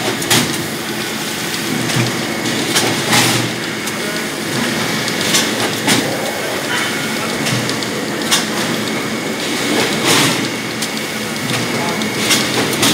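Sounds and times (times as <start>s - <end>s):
machine mechanical hum: 0.0s - 12.9s.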